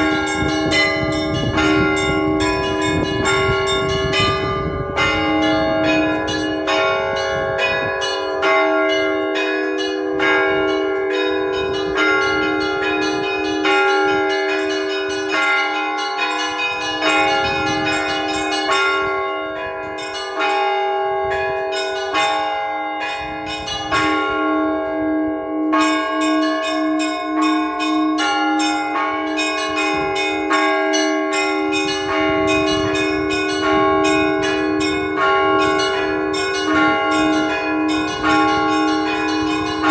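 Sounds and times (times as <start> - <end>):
large bells ringing: 0.0 - 39.9.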